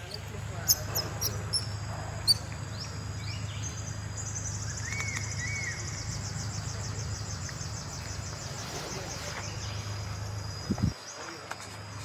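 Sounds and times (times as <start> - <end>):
insects trilling: 0.0 - 12.0
steady low hum: 0.0 - 12.0.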